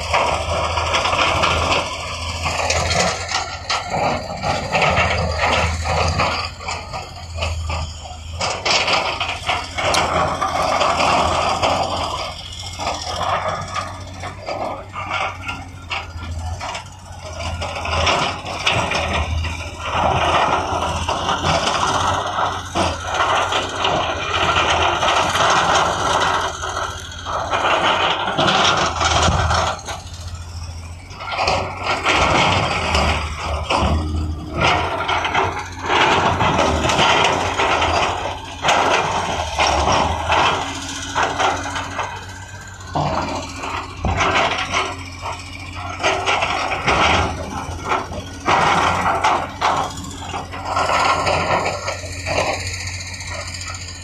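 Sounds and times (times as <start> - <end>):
heavy diesel machine running: 0.0 - 54.0
soil and rock scraping: 0.0 - 54.0.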